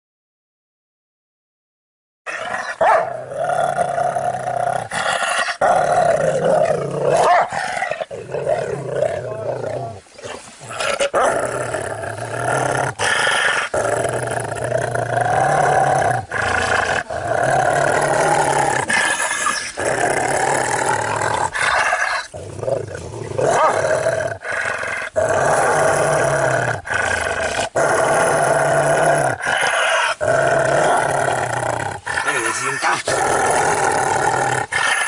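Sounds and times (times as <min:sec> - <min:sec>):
dog growling: 0:02.3 - 0:35.0.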